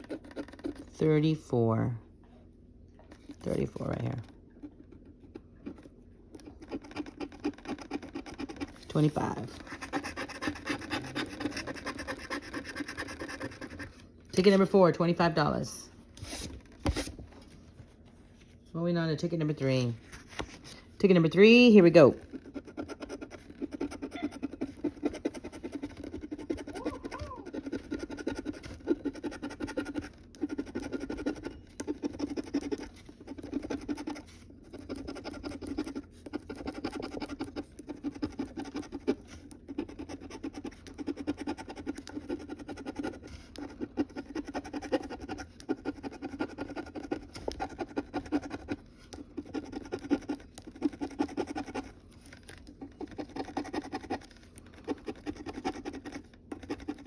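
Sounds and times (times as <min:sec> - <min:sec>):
scratching lottery ticket: 0:00.0 - 0:01.4, 0:03.3 - 0:15.2, 0:19.2 - 0:57.0.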